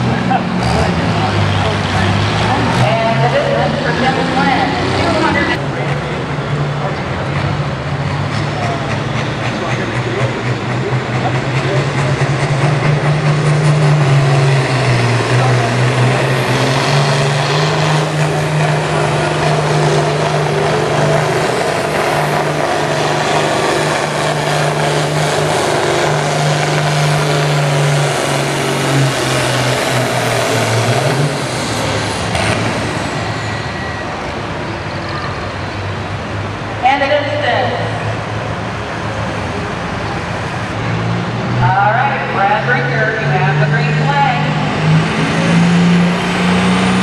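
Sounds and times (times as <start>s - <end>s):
tractor engine at full throttle: 0.0s - 47.0s.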